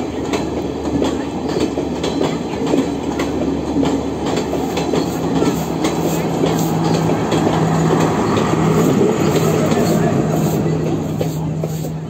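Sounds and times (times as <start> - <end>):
train rumble: 0.0 - 12.0
train wheels clacking: 0.0 - 12.0.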